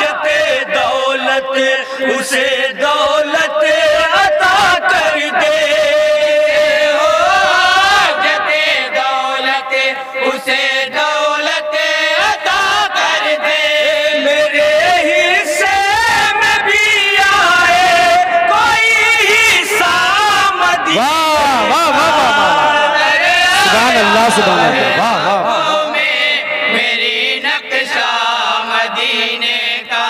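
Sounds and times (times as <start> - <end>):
men singing unaccompanied chorus: 0.0 - 30.0.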